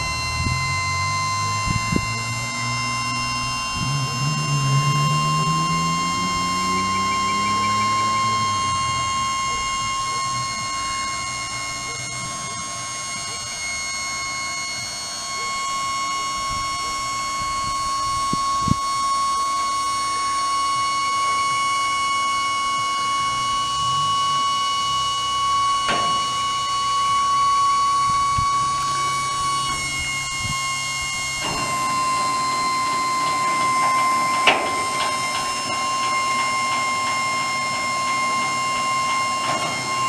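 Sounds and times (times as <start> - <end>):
engine idling: 0.0 - 40.0
truck warning buzzer: 0.0 - 40.0.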